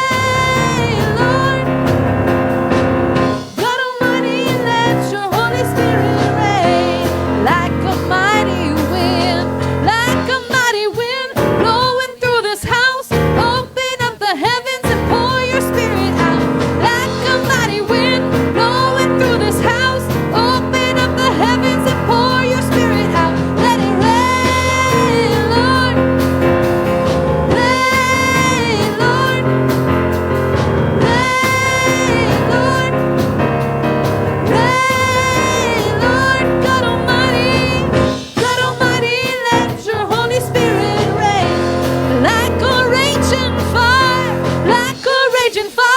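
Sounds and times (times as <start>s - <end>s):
band with keyboard chords: 0.0s - 12.1s, 14.9s - 45.1s
voices singing gospel song: 0.0s - 45.9s.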